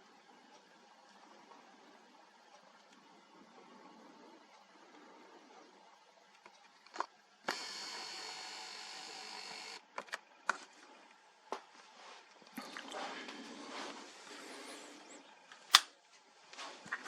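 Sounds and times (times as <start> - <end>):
speaker hiss with faint tones: 0.0 - 17.0.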